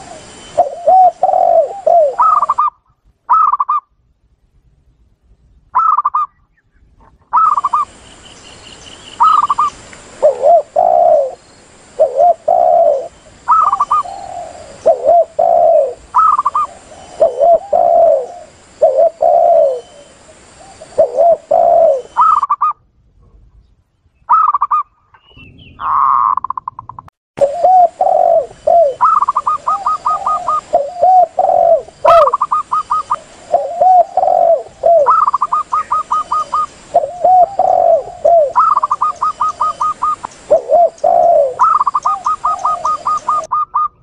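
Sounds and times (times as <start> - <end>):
faint high hiss: 0.0 - 2.7, 6.7 - 23.6, 27.4 - 43.5
doves cooing: 0.0 - 3.8, 7.0 - 8.0, 8.9 - 22.8, 25.8 - 44.0.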